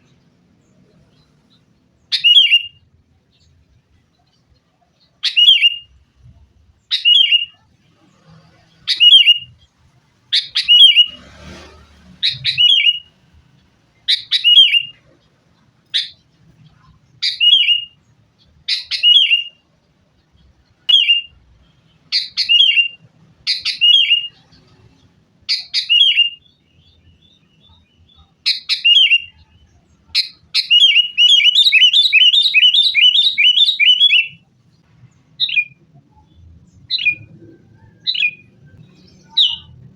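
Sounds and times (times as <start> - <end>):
bird chirping calls: 0.0 - 39.9.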